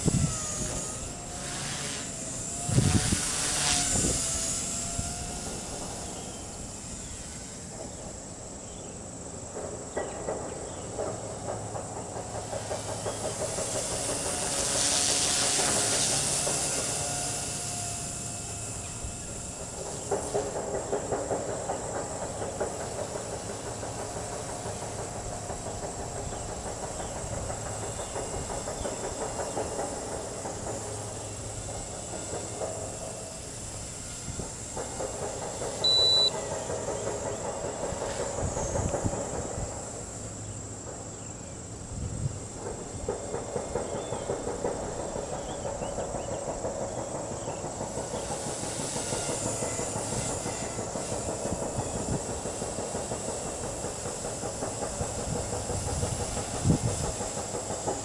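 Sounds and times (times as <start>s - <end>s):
motor high whine: 0.0s - 43.1s, 44.5s - 58.0s.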